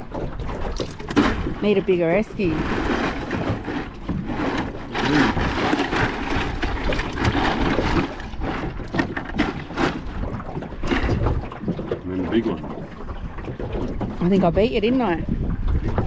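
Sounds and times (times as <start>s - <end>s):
knocks and clatter in aluminium boat: 0.0s - 16.0s.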